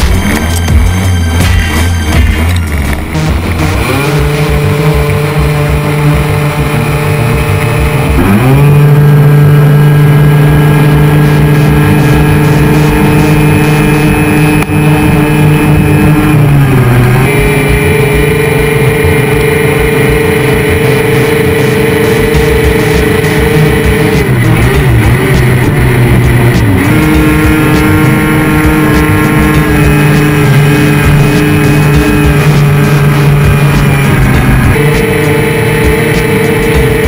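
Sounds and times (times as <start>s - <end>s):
hovercraft engine and fan running: 0.0s - 37.0s.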